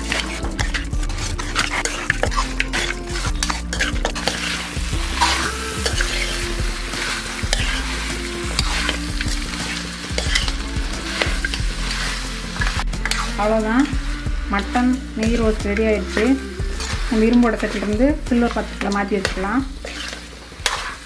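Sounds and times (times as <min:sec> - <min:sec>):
meat sizzling in a pan: 0:00.0 - 0:21.0
metal spatula scraping a pan: 0:00.0 - 0:21.0.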